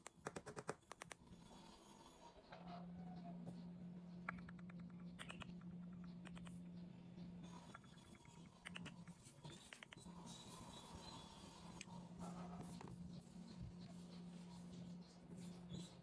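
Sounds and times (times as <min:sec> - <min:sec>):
low steady hum: 0:00.1 - 0:16.0.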